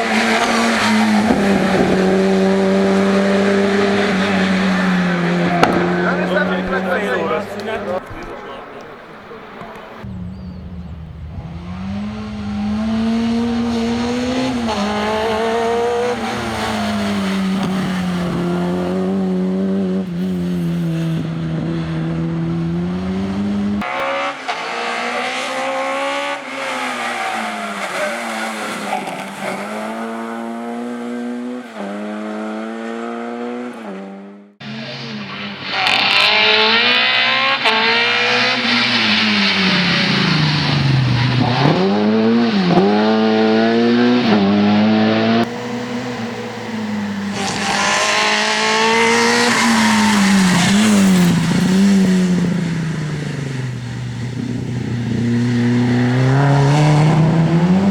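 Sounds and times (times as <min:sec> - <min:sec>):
rally car engine revving: 0:00.0 - 0:57.9.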